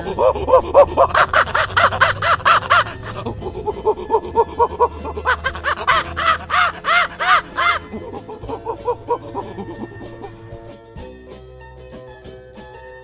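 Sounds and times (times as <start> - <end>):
chimpanzee hooting: 0.0 - 10.7.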